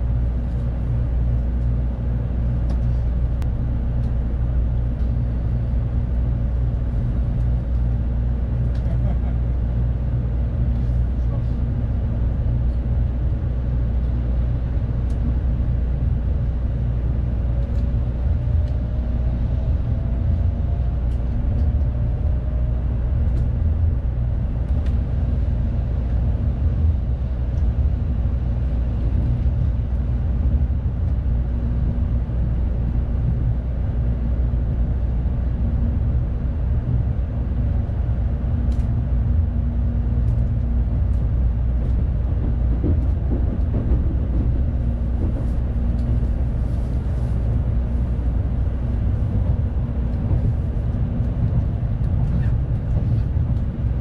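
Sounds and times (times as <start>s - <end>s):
low rumble of running train: 0.0s - 54.0s.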